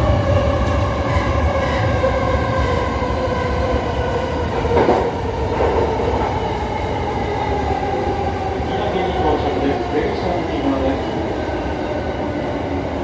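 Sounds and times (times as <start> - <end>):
low rail rumble: 0.0 - 13.0.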